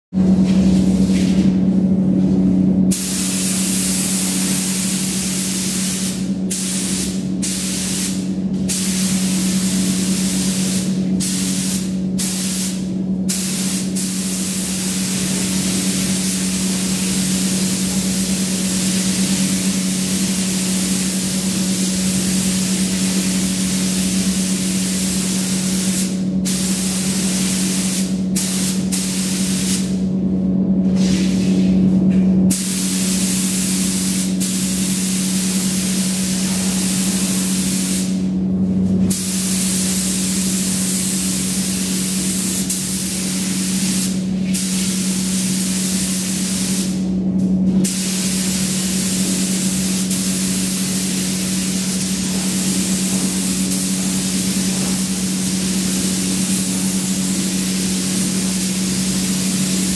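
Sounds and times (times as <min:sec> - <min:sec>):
paint spray gun hissing: 0:02.9 - 0:29.9, 0:32.5 - 0:38.2, 0:39.1 - 0:47.0, 0:47.8 - 0:59.9.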